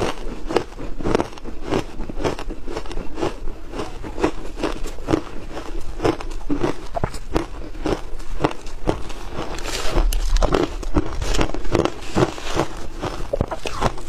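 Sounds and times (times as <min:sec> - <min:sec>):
chewing crunchy ice: 0:00.0 - 0:14.0.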